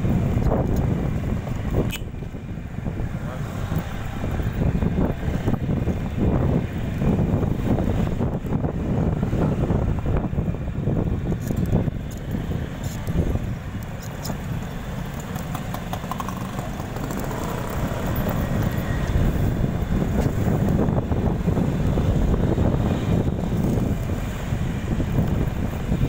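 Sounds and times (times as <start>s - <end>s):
motorcycle engine rumble: 0.0s - 26.0s
wind rushing over microphone: 0.0s - 26.0s.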